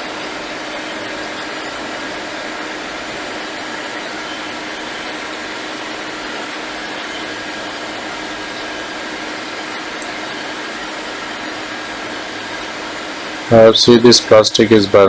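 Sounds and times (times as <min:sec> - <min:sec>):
faint steady hum: 0:00.0 - 0:15.0
hot air blower hissing: 0:00.0 - 0:15.0.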